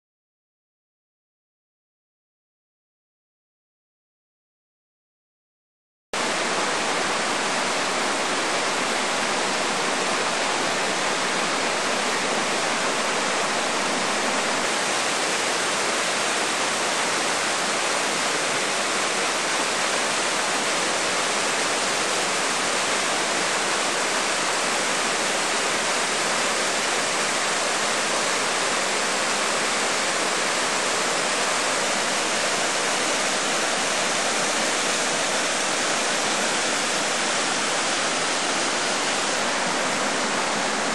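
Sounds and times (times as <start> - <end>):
waterfall rushing: 6.2 - 40.9.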